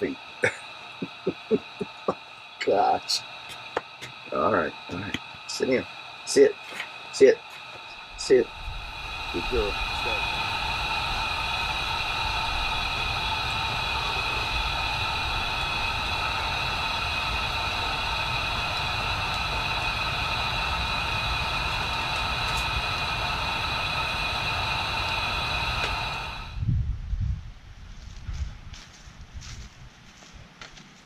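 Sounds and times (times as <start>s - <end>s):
steady high tones: 0.0s - 26.6s
steady hiss and hum: 0.0s - 31.0s
low rumble: 4.1s - 29.5s.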